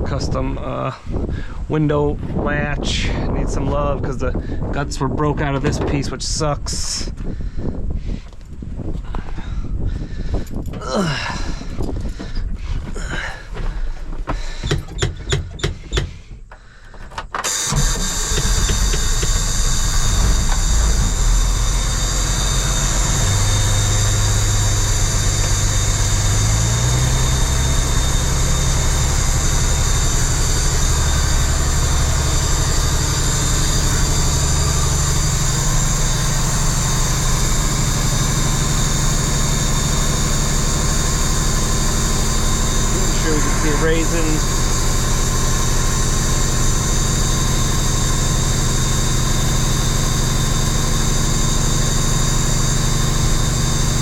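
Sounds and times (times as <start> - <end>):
diesel engine cranking with knocks: 0.0 - 54.0
diesel engine idling: 8.8 - 54.0.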